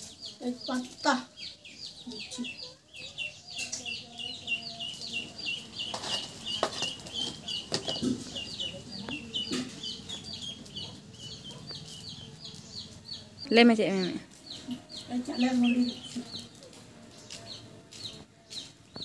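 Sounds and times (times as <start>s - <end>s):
chick peeping: 0.0s - 19.0s.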